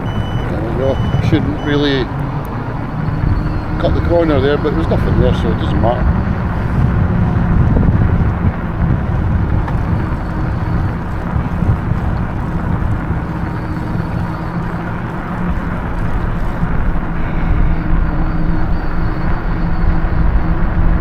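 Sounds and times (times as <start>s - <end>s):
faint hum: 0.0s - 21.0s
road noise rumble: 0.0s - 21.0s
wind buffeting microphone: 0.0s - 21.0s.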